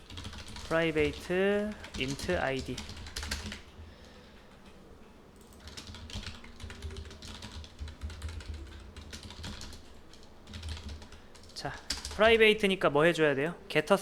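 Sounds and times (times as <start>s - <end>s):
keyboard typing: 0.0s - 4.8s, 5.4s - 12.5s.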